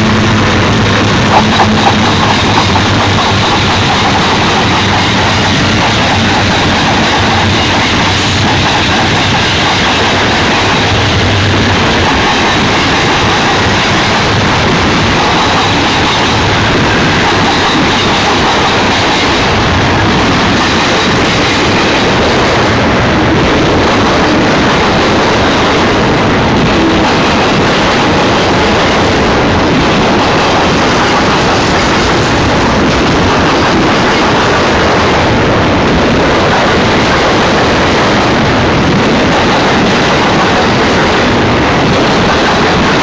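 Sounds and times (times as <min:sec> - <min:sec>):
freight train wheels on rail: 0:00.0 - 0:43.0.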